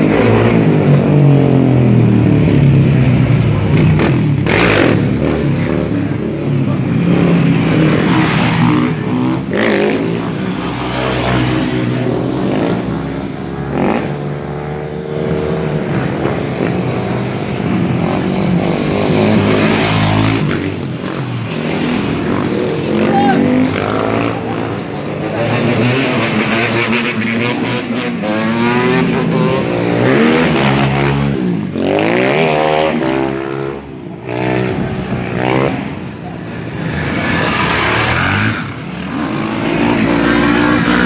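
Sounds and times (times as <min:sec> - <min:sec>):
motorcycle engines revving past: 0:00.0 - 0:41.0.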